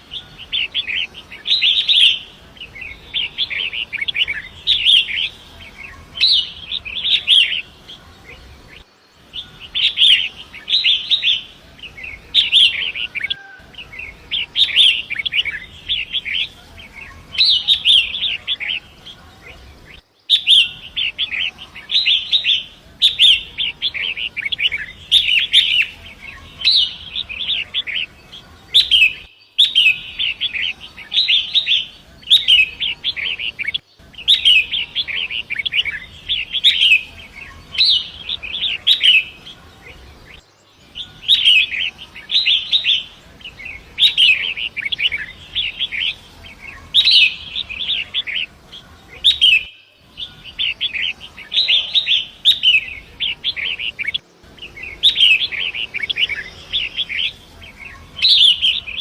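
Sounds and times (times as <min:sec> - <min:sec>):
shrike chattering song: 0:00.0 - 0:59.0.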